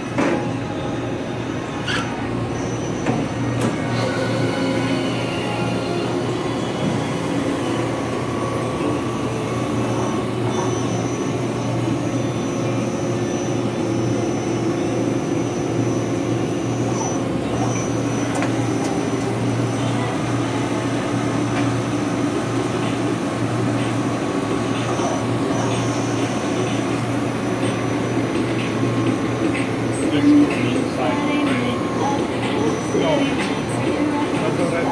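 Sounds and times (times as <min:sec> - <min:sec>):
machining center humming: 0:00.0 - 0:34.9.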